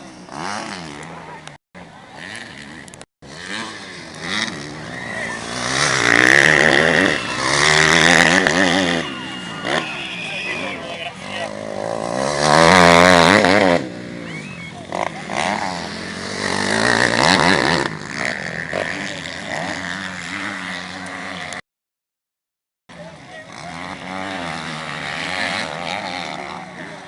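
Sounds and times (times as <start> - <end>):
motocross bike engines revving: 0.0 - 21.6, 22.9 - 27.0.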